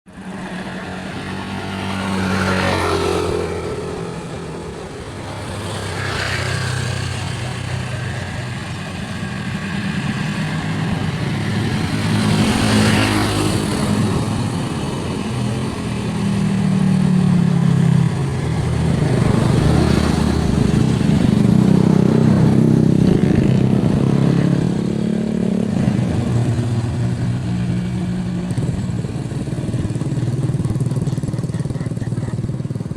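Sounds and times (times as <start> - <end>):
passing traffic: 0.1 - 32.9.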